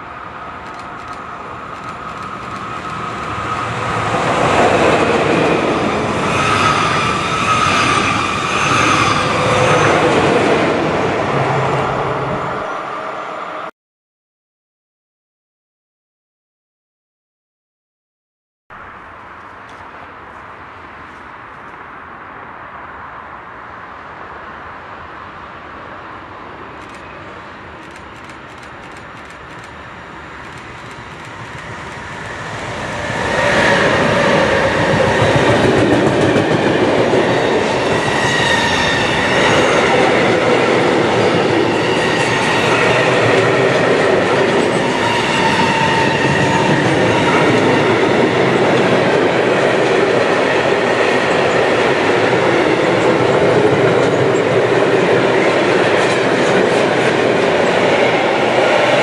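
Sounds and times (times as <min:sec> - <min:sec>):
train passing on rails: 0:00.0 - 0:13.7, 0:18.8 - 0:59.0.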